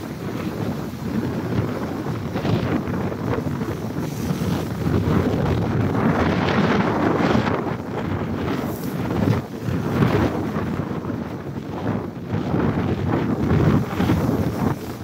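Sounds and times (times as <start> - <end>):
waves breaking against rocks: 0.0 - 15.0
wind buffeting microphone: 0.0 - 15.0.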